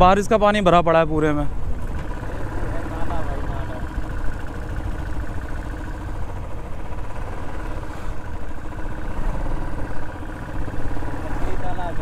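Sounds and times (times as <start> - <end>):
motorcycle engine idling low: 0.0 - 12.0.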